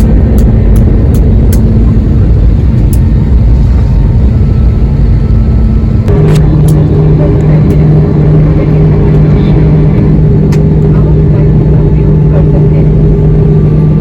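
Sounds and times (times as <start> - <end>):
jet engines droning in cabin: 0.0 - 14.0.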